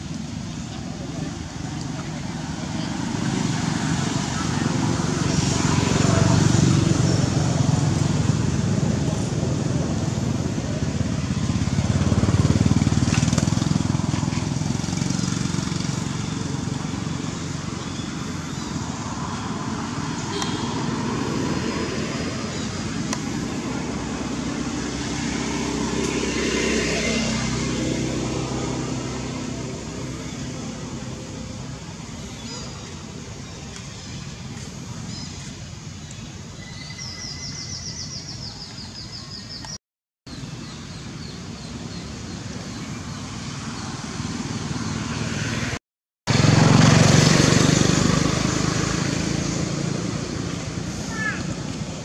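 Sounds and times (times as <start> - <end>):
vehicle engine passing by: 0.7 - 32.4, 40.4 - 52.0.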